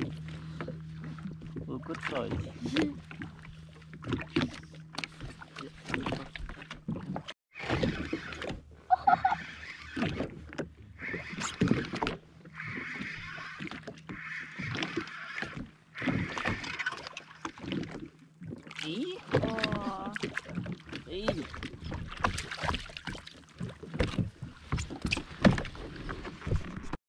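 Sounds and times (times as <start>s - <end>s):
water splashing: 0.0s - 27.0s.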